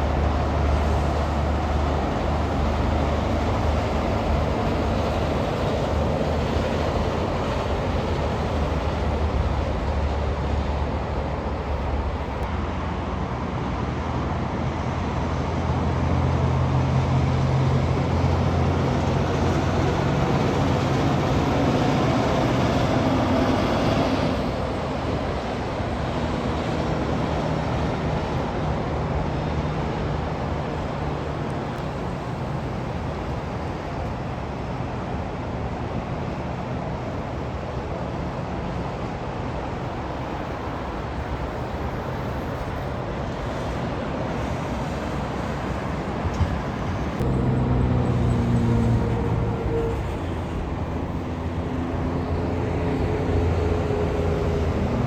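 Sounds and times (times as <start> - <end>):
diesel trucks passing: 0.0 - 55.0
tyre and road noise: 0.0 - 55.0.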